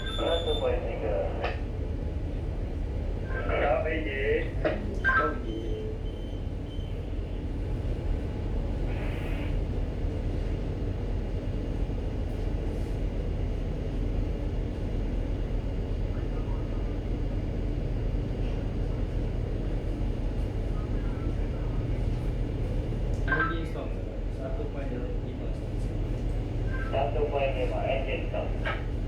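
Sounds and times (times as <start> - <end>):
ship engine rumble: 0.0 - 29.0.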